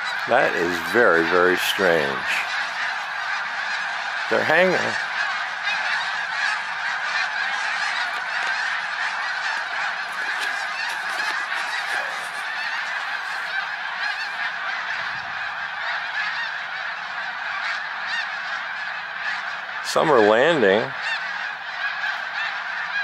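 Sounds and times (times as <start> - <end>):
flock of geese honking: 0.0 - 23.0.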